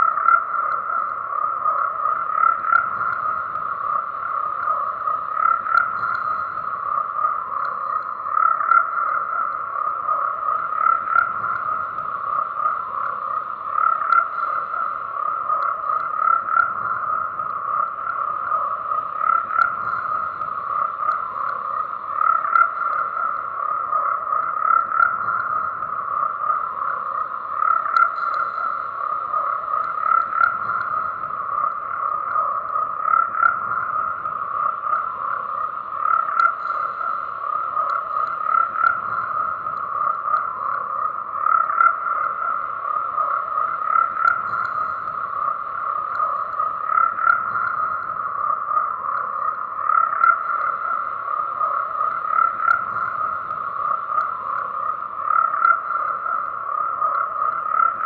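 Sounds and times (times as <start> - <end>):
chorus of frogs croaking: 0.0 - 58.0.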